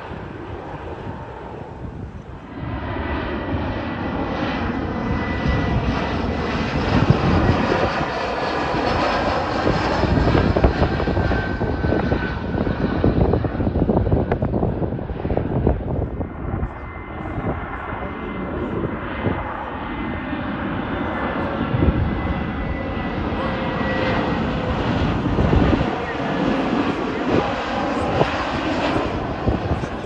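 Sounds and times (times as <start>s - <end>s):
airliner engines roaring: 0.0s - 30.0s
wind buffeting microphone: 0.0s - 30.0s.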